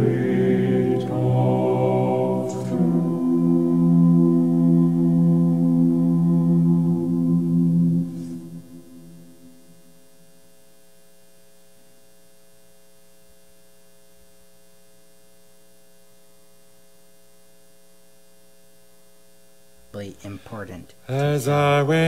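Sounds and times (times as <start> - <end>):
faint electrical mains hum: 0.0 - 22.0.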